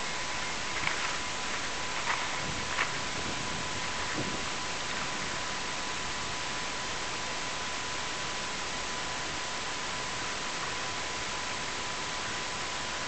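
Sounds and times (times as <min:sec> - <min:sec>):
static-like hiss: 0:00.0 - 0:13.0.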